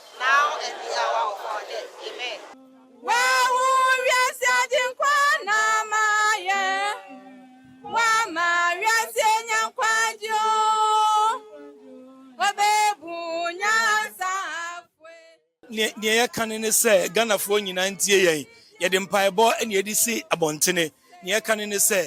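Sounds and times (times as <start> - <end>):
person singing unaccompanied: 2.4 - 22.0.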